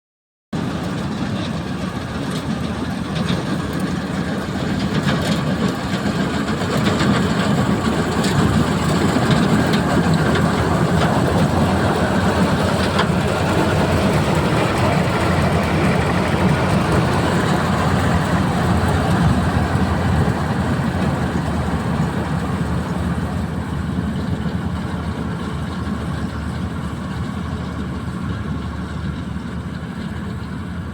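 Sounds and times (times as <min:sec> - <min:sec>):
combine harvester engine hum: 0:00.6 - 0:30.9
machinery noise: 0:00.6 - 0:30.9.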